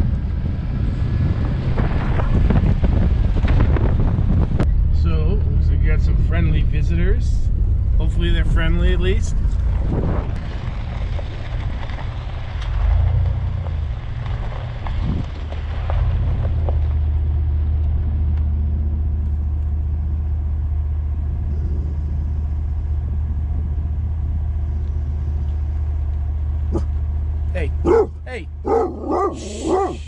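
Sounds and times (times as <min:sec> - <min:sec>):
van engine running: 0:00.0 - 0:30.0.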